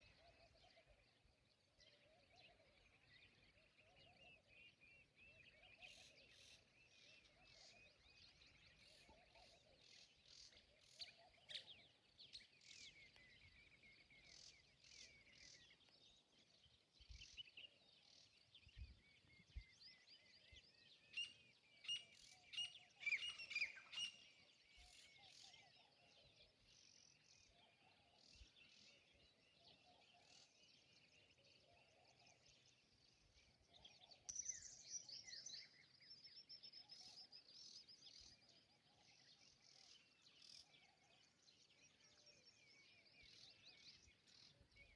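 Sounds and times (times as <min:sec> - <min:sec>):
birds chirping and singing: 0:00.0 - 0:44.9.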